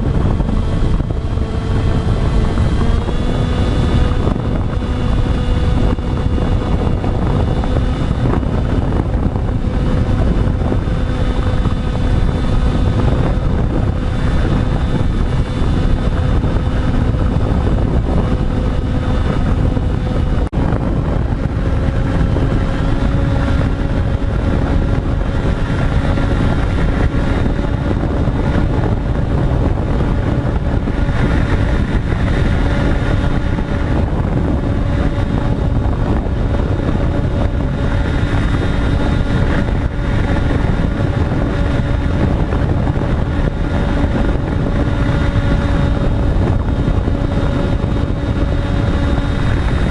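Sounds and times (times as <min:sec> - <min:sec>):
loud rushing noise: 0:00.0 - 0:49.9
model aircraft motors whining: 0:00.0 - 0:49.9.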